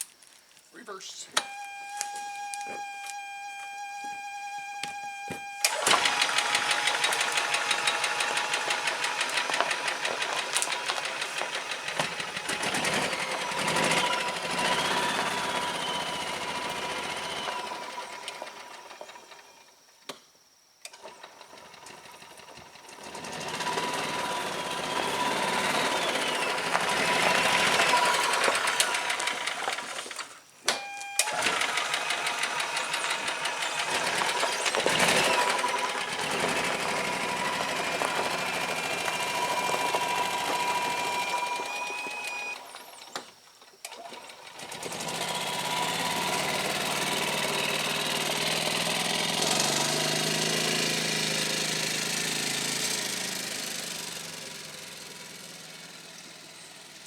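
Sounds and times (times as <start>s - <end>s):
golf cart engine running: 1.4s - 19.7s, 20.9s - 43.2s, 43.9s - 57.0s.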